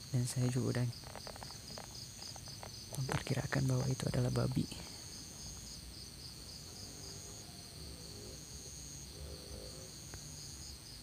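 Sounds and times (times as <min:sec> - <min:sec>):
insect trill: 0:00.0 - 0:11.0
insects pulsing chirp: 0:00.0 - 0:11.0.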